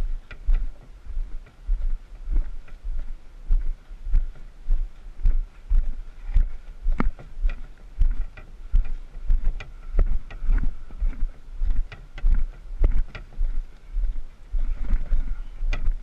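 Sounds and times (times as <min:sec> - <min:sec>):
footsteps on dirt and rock: 0:00.0 - 0:16.0
low rumble: 0:00.0 - 0:16.0.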